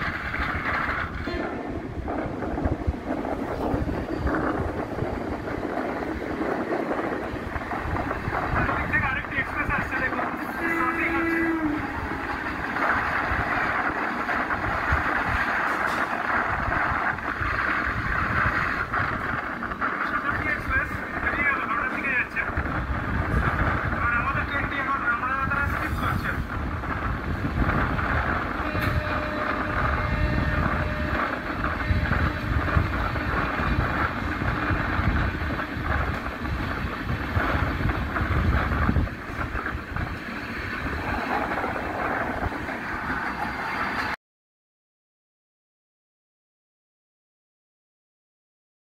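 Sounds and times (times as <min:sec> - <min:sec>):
passing train rushing: 0:00.0 - 0:44.2.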